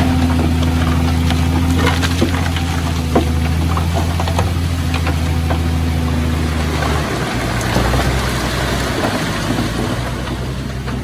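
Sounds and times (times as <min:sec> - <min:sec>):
diesel machine engine running: 0:00.0 - 0:11.0.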